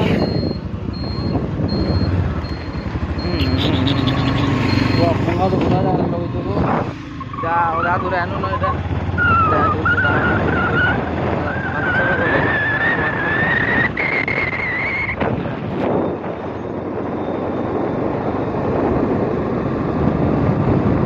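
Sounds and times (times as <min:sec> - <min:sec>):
wind rushing over microphone: 0:00.0 - 0:02.5, 0:05.0 - 0:21.0
motorcycle engine whine: 0:00.0 - 0:21.0.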